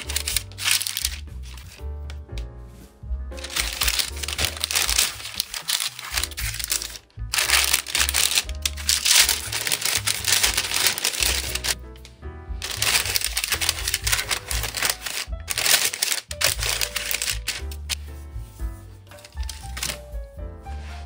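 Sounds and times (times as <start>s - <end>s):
background music: 0.0s - 21.0s
parchment paper crinkling: 0.0s - 21.0s.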